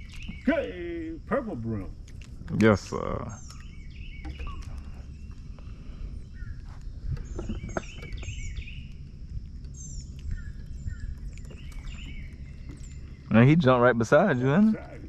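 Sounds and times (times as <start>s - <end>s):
steady low rumble: 0.0s - 15.0s
wild birds chirping: 0.0s - 15.0s.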